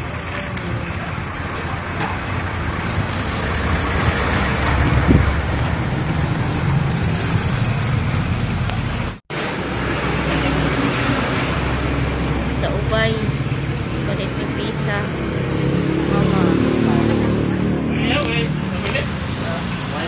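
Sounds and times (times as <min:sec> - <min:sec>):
motorcycle and vehicle engines: 0:00.0 - 0:20.0.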